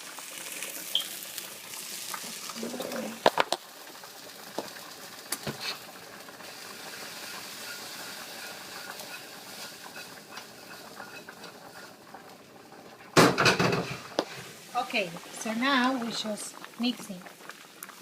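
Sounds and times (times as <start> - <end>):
food sizzling in a pot: 0.0 - 18.0.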